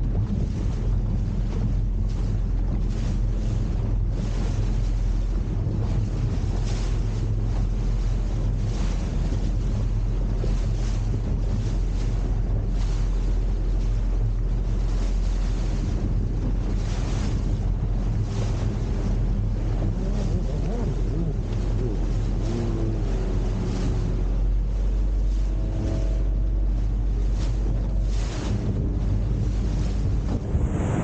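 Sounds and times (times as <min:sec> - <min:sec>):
boat engine drone: 0:00.0 - 0:31.0
water rushing: 0:00.0 - 0:31.0
wind noise on microphone: 0:00.0 - 0:31.0.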